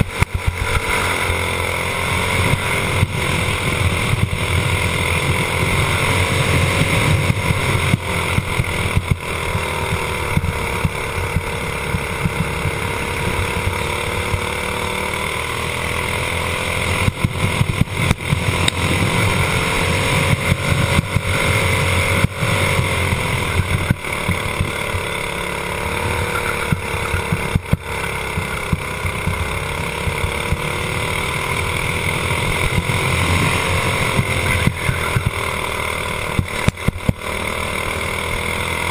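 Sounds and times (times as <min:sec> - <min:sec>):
kart engine running hard: 0:00.0 - 0:38.9.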